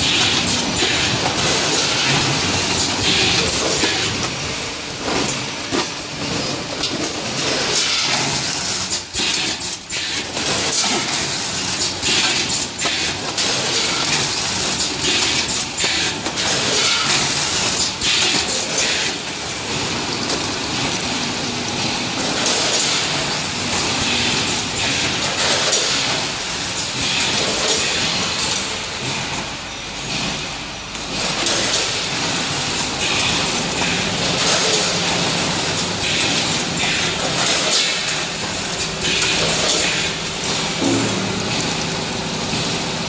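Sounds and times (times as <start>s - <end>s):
packing machine clatter and hiss: 0.0s - 43.0s.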